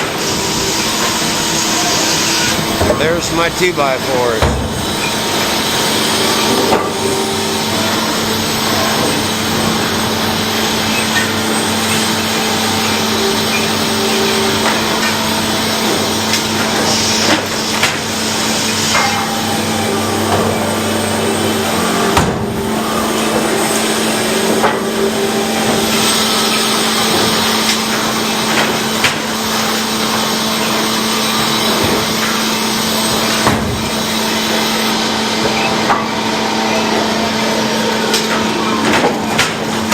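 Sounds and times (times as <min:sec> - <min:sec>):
sawmill machinery sawing: 0:00.0 - 0:39.9.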